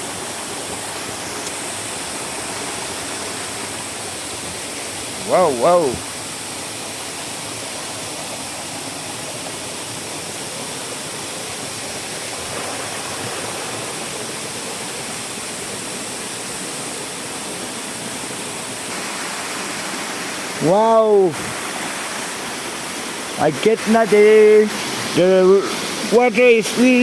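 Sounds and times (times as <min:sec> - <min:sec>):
fast river rushing: 0:00.0 - 0:27.0.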